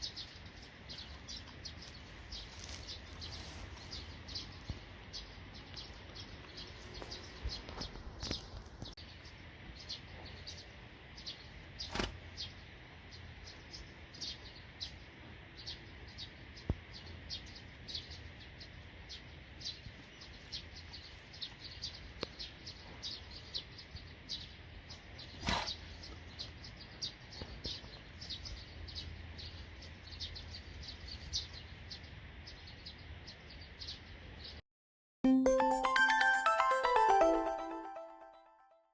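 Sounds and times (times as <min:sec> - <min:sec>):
small birds chirping: 0:00.0 - 0:34.6.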